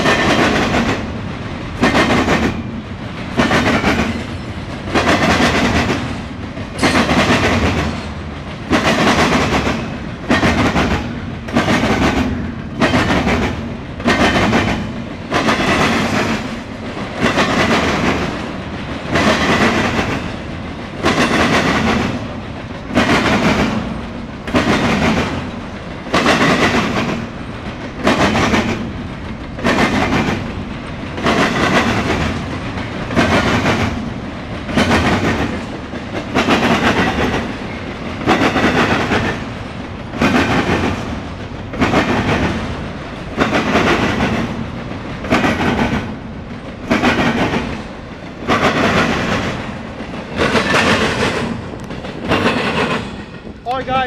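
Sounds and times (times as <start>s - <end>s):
continuous train rumble: 0.0s - 54.0s
train wheels clattering on track: 0.0s - 54.0s.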